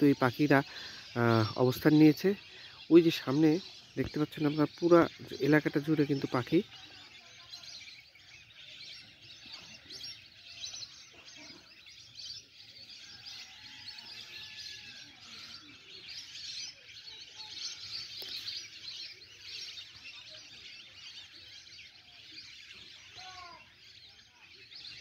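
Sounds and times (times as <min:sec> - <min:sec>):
many birds chirping: 0:00.0 - 0:25.0.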